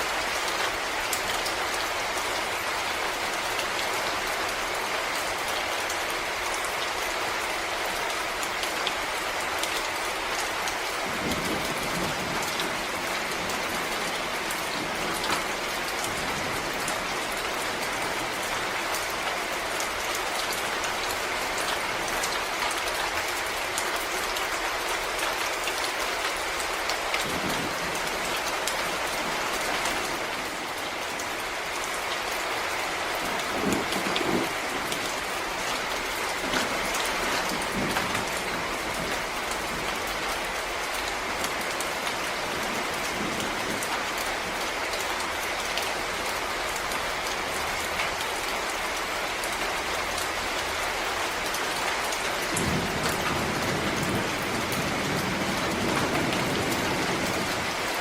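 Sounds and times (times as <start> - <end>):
heavy raindrops striking: 0.0 - 58.0
rain falling on leaves: 0.0 - 58.0.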